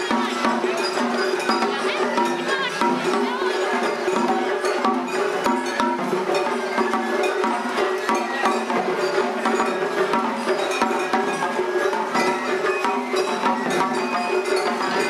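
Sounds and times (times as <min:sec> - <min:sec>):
bell-like metal strikes: 0:00.0 - 0:15.0
quick drumming: 0:00.0 - 0:15.0.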